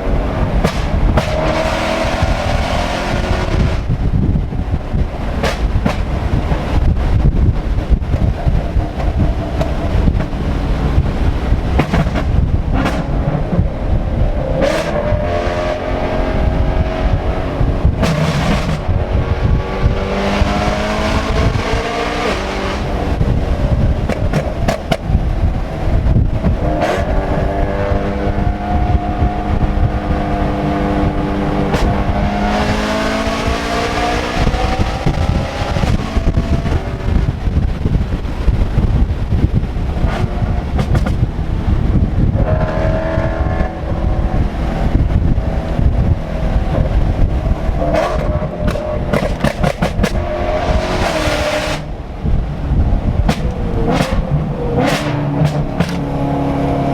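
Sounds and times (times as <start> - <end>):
car engine revving: 0.0 - 56.9
exhaust cracks: 0.0 - 56.9.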